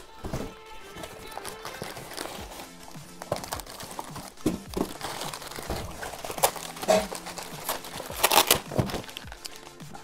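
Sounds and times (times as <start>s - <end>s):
cardboard rustling and scraping: 0.2s - 9.6s.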